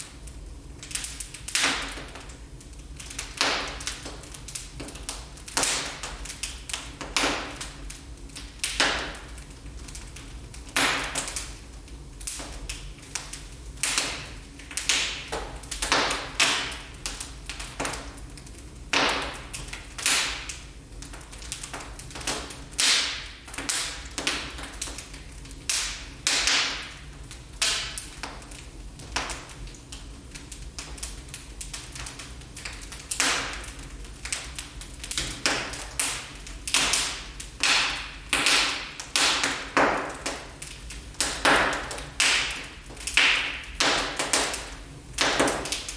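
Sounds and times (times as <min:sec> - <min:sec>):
wood fire popping and snapping: 0:00.0 - 0:45.9.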